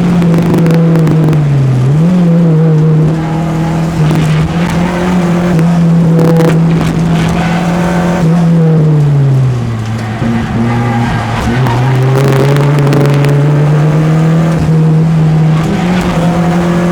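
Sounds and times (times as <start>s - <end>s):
car engine revving high: 0.0s - 16.9s.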